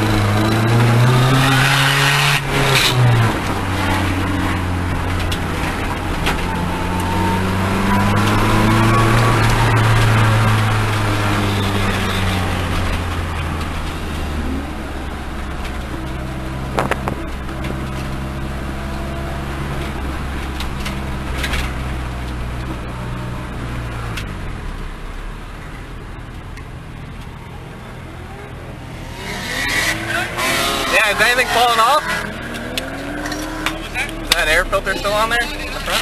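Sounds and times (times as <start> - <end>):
car engine running inside cabin: 0.0 - 36.0.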